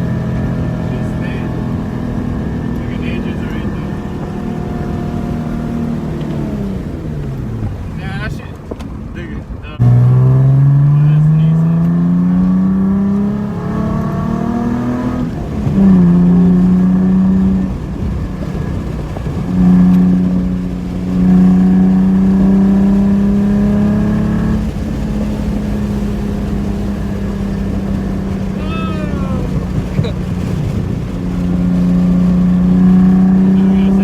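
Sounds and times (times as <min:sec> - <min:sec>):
car exhaust drone under throttle: 0:00.0 - 0:34.0.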